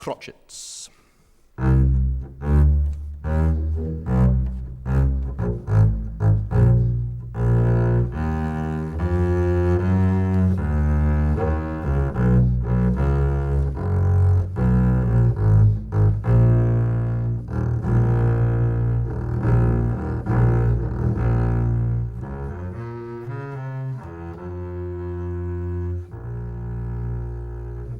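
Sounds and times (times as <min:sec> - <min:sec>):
bowed double bass notes: 0:01.6 - 0:27.9.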